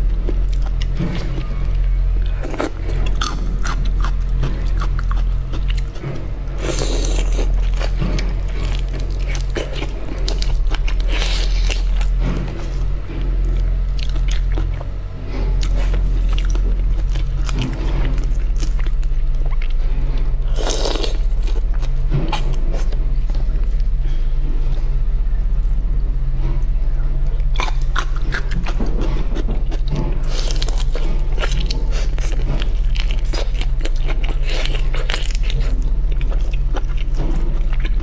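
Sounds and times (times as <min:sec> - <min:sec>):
chewing: 0:00.1 - 0:24.0, 0:27.4 - 0:38.0.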